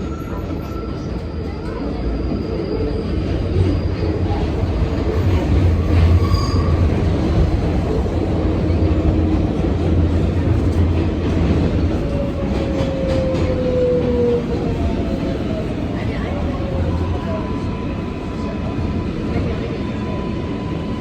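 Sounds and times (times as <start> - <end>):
subway train rumble: 0.0 - 21.0.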